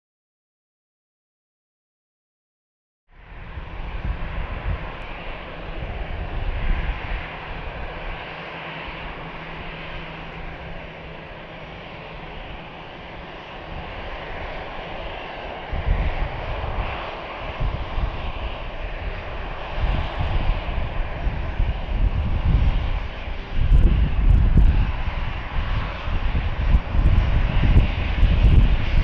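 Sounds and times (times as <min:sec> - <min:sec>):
jet engine whine: 0:03.1 - 0:29.0
low rumbling: 0:03.3 - 0:29.0.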